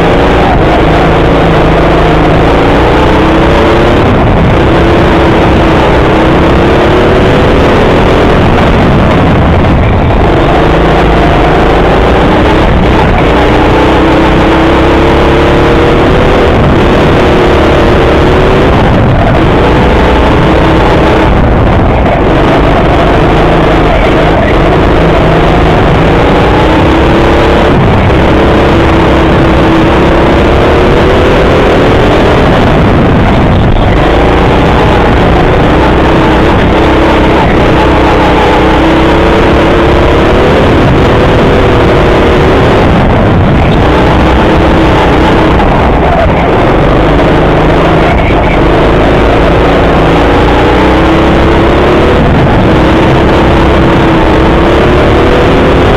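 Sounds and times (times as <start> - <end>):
go-kart engine revving: 0.0 - 55.9.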